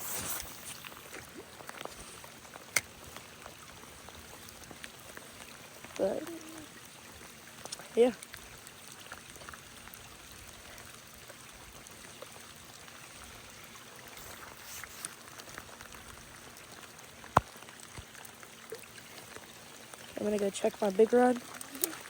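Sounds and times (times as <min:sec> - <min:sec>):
falling rain: 0:00.0 - 0:22.0
flowing creek: 0:00.0 - 0:22.0.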